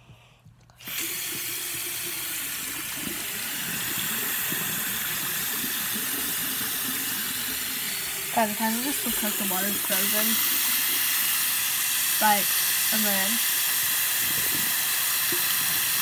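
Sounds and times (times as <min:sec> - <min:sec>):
faucet turned on: 0:00.8 - 0:16.0
water running into sink: 0:00.8 - 0:16.0.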